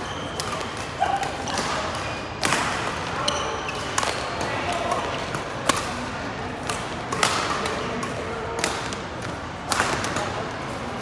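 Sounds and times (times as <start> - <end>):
racket hitting shuttlecock: 0.3 - 10.4.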